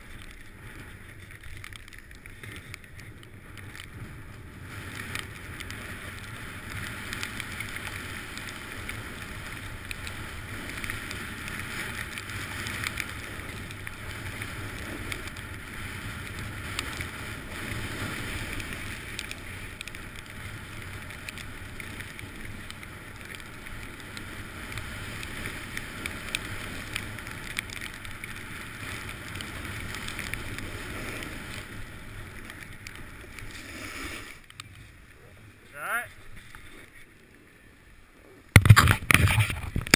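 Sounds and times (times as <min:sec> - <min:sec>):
small scrapes and clicks: 0:00.0 - 0:35.3, 0:36.1 - 0:39.9
snowboard scraping on snow: 0:00.0 - 0:39.9.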